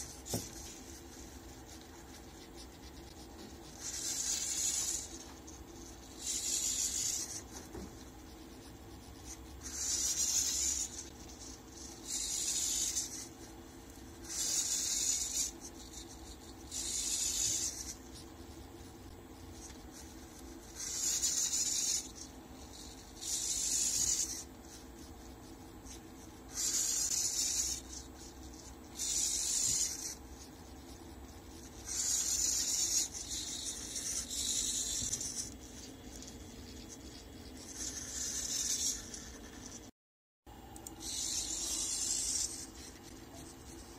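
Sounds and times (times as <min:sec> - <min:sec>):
faint steady hum: 0:00.0 - 0:39.9, 0:40.5 - 0:43.9
marker rubbing on paper: 0:00.0 - 0:39.9, 0:41.0 - 0:43.9.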